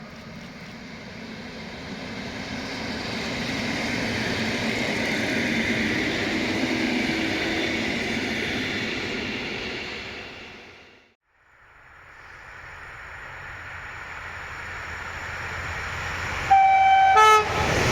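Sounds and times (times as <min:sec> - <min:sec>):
train passing: 0:00.0 - 0:17.9.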